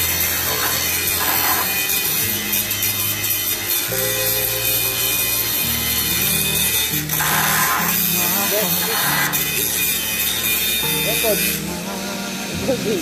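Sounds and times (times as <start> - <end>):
background music with bass: 0.0 - 13.0
welding arc crackling: 0.0 - 13.0.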